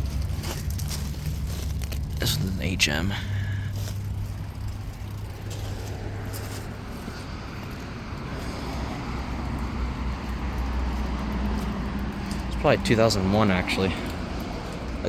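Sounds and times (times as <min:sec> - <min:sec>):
road traffic rumble: 0:00.0 - 0:15.0
vehicle humming nearby: 0:00.0 - 0:15.0.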